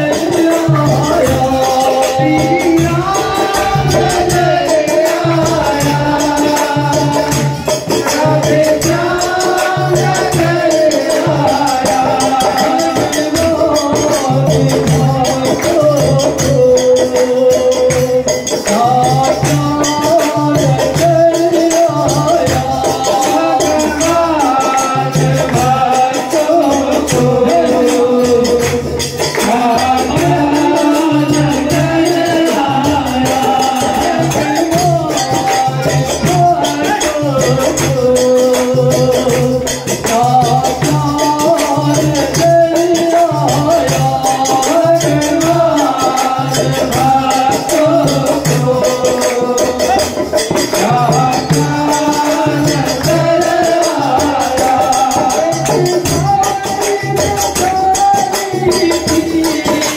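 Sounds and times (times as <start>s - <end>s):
person singing devotional song: 0.0s - 59.9s
shaker-like rattling percussion: 0.0s - 59.9s
steady drum beat: 0.0s - 59.9s.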